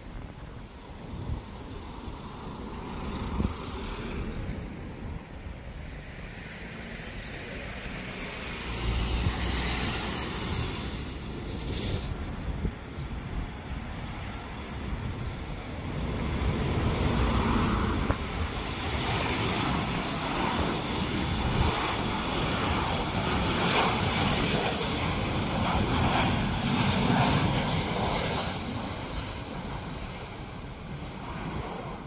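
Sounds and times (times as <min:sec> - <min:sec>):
jet airliner engine rushing: 0:00.0 - 0:32.0.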